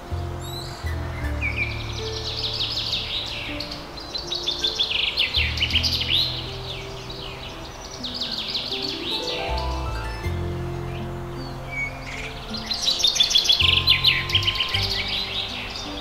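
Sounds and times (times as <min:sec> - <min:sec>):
soft background music: 0:00.0 - 0:16.0
birds chirping and trilling: 0:00.4 - 0:16.0.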